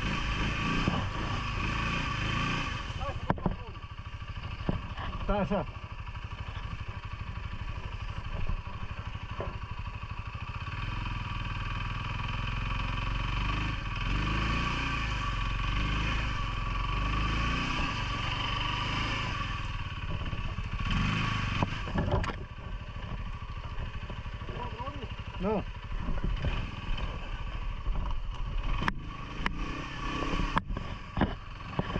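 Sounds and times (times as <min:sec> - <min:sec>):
atv engine revving: 0:00.0 - 0:31.9.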